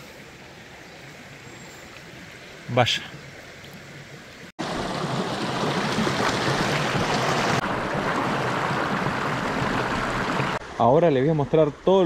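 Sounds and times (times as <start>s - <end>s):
creek water rushing and splashing: 0.0s - 12.0s.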